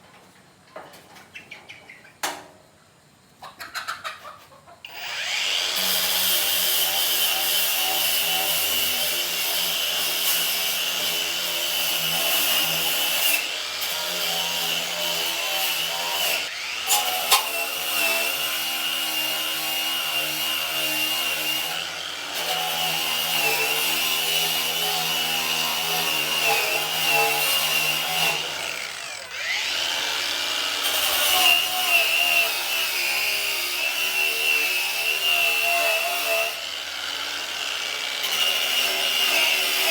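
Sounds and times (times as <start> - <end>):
power tool whining: 4.9 - 39.9.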